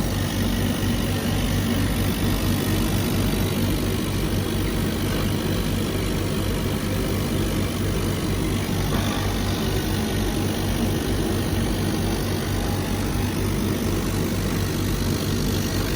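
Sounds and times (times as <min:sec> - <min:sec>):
laser cutter machine drone: 0:00.0 - 0:15.9.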